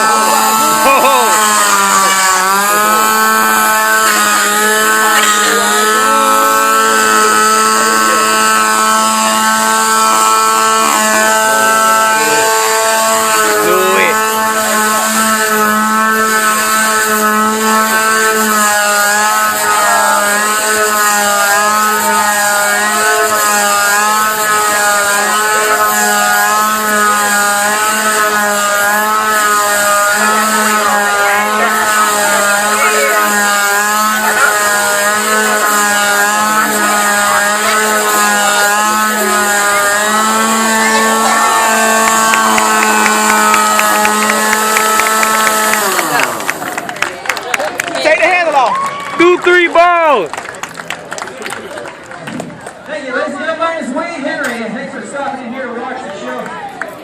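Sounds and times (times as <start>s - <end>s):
chainsaw engine running: 0.0s - 57.0s.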